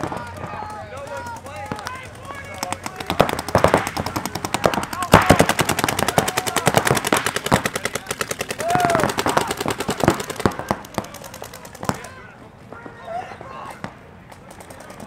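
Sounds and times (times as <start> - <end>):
paintball markers firing: 0.0 - 12.2
voices shouting: 0.0 - 15.0.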